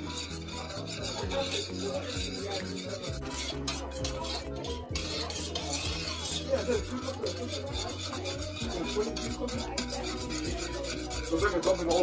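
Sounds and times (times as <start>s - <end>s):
metal spoon scraping saucepan: 0.0s - 12.0s.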